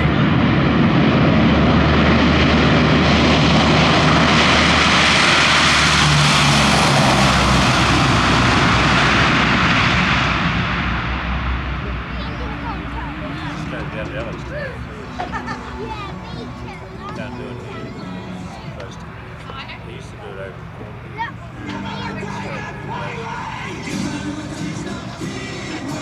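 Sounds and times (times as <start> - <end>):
aircraft engine passing: 0.0 - 26.0.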